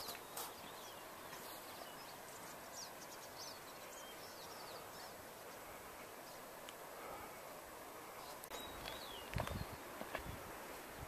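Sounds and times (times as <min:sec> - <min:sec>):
small birds chirping: 0:00.0 - 0:11.0
steady low hiss: 0:00.0 - 0:11.0.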